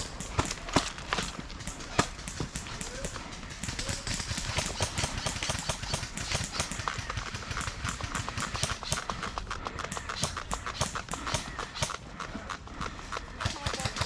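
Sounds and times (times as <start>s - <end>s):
gear clicking and rattling: 0.0s - 14.0s.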